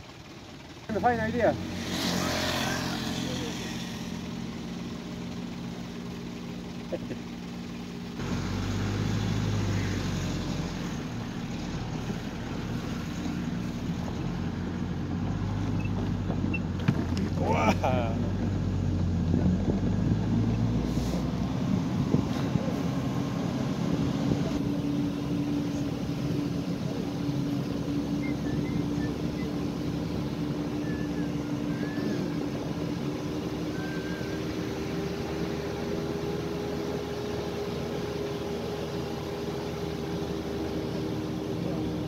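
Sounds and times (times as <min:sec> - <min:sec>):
tyres on gravel road: 0:00.0 - 0:42.0
vehicle engine hum: 0:00.0 - 0:42.0.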